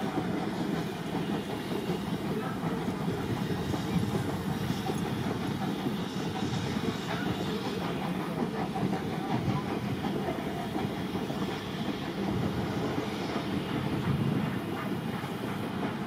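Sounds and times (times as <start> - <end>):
train wheels clicking over rail joints: 0.0 - 16.0.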